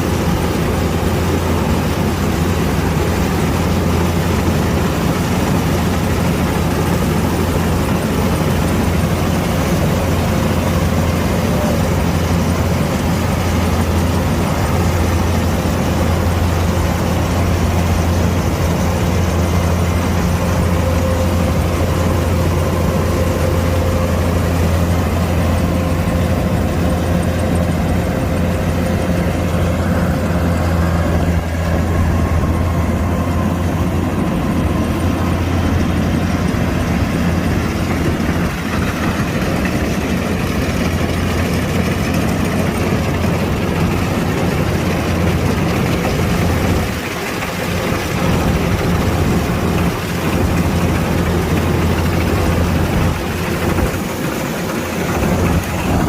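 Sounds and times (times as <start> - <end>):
combine harvester diesel engine running: 0.0 - 56.0.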